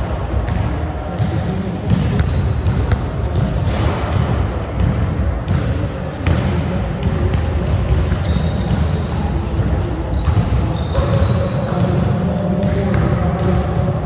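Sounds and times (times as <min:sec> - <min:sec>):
sneakers squeaking: 0:00.1 - 0:14.0
basketballs bouncing on wooden floor: 0:00.4 - 0:14.0.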